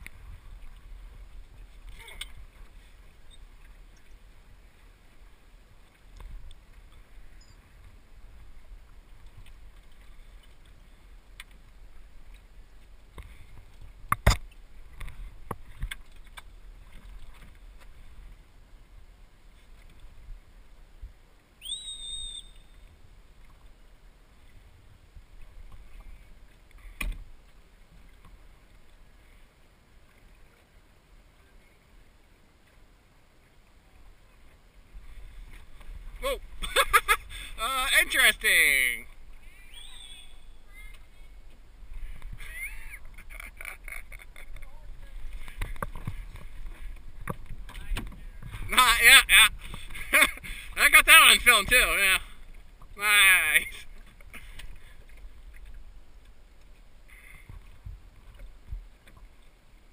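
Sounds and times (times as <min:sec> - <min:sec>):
water and wind against hull: 0:00.0 - 0:59.9.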